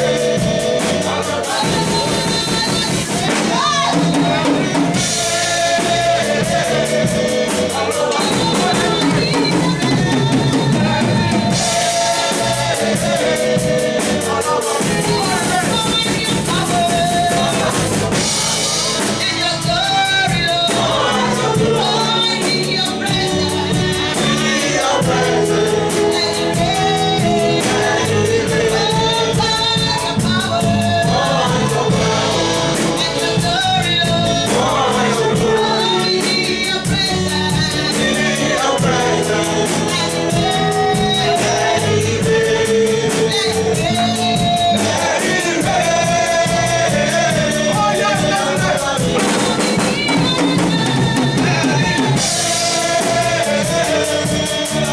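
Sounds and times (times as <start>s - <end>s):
drum kit beat: 0.0s - 54.9s
gospel choir singing: 0.0s - 54.9s.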